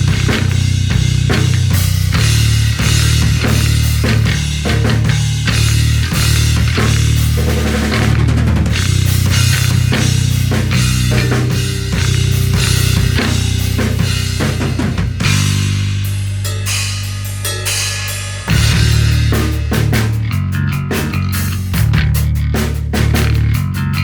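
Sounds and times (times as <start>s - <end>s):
electric bass line: 0.0s - 24.0s
rock drum kit beat: 0.0s - 24.0s.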